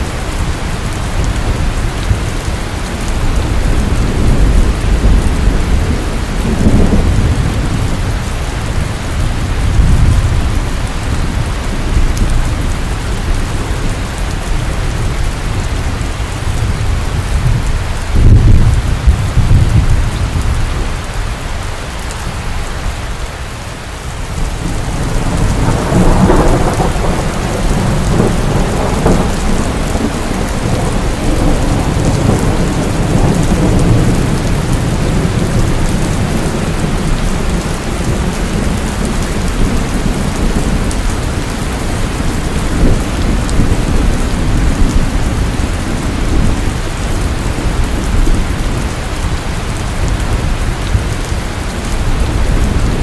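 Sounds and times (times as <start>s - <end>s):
thunder rumbling: 0.0s - 21.2s, 24.2s - 53.0s
heavy rain falling: 0.0s - 53.0s.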